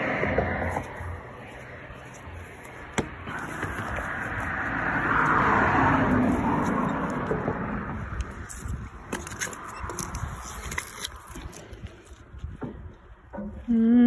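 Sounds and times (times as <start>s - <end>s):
car passing on road: 0.0s - 12.2s.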